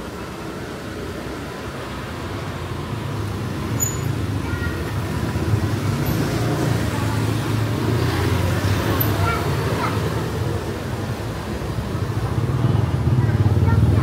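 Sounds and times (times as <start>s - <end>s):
street noise: 0.0s - 14.0s.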